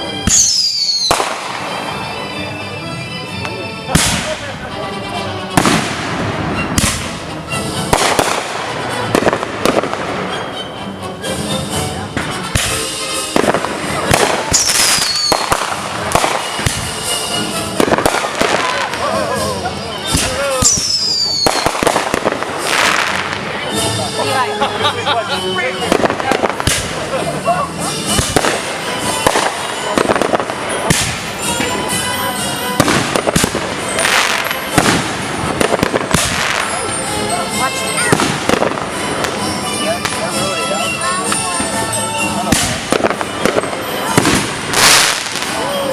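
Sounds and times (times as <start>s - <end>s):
fireworks crackling: 0.0s - 45.9s
music: 0.0s - 45.9s
firework bangs: 0.1s - 2.1s, 3.9s - 4.6s, 5.5s - 10.7s, 12.0s - 24.3s, 25.8s - 40.4s, 41.0s - 45.9s.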